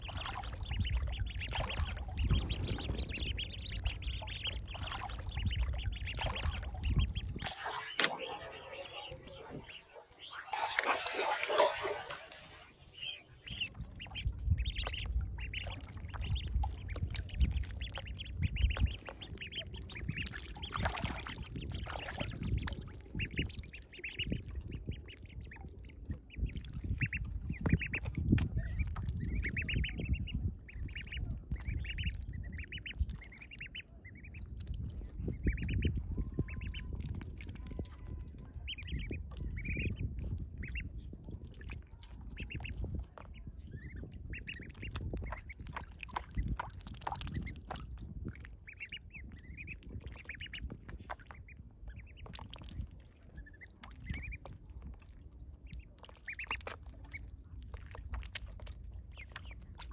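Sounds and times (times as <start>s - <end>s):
ducklings peeping: 0.0s - 59.9s
water splashing and sloshing: 0.0s - 59.9s.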